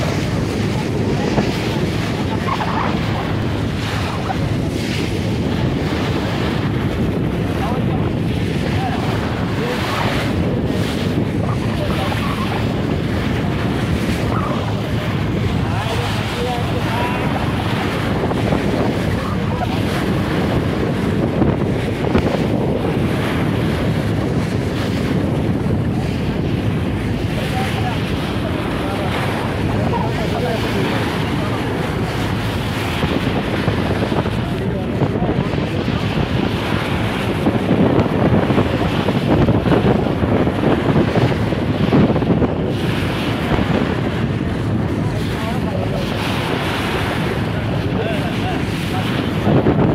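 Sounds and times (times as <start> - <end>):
choppy water splashing: 0.0 - 49.9
wind buffeting microphone: 0.0 - 49.9.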